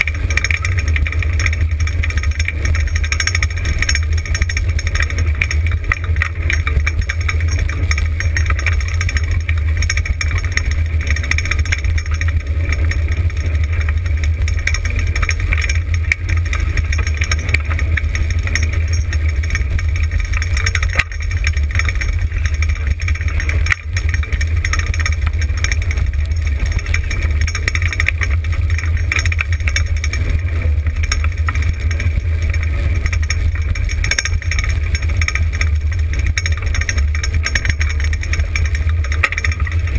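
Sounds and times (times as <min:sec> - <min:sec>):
sled rig rattling over dirt: 0:00.0 - 0:39.9
wind rumble on microphone: 0:00.0 - 0:39.9.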